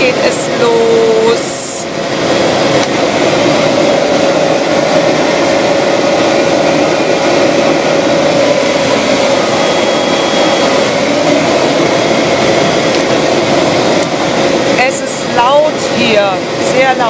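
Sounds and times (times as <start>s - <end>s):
turboprop engines running: 0.0s - 17.0s.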